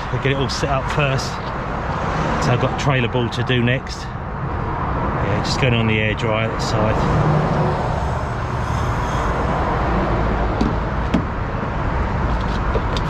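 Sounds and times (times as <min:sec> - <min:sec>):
motorway traffic: 0:00.0 - 0:13.0.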